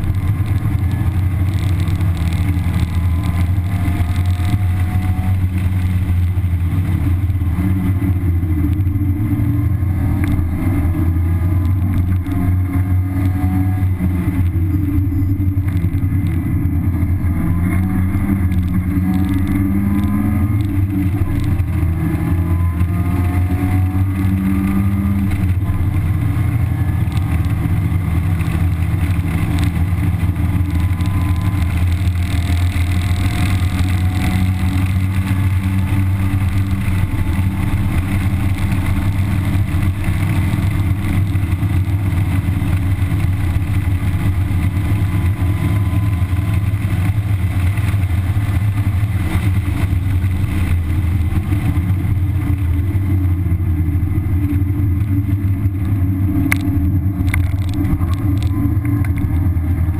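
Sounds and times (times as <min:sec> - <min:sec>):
car engine droning from inside cabin: 0:00.0 - 0:59.9.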